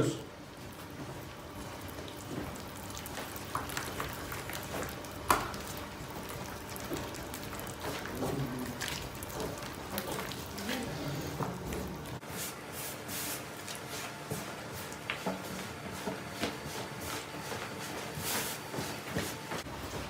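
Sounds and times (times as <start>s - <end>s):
hand squelching wet dough: 1.3s - 19.4s.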